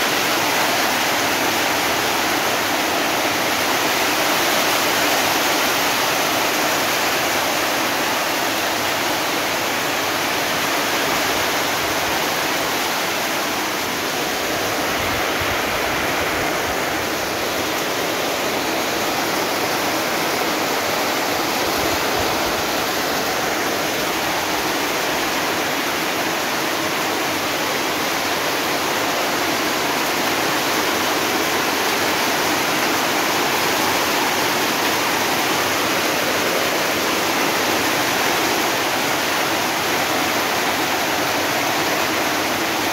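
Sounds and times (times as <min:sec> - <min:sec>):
heavy rain on metal roof: 0:00.0 - 0:42.9
water streaming off roof: 0:00.0 - 0:42.9.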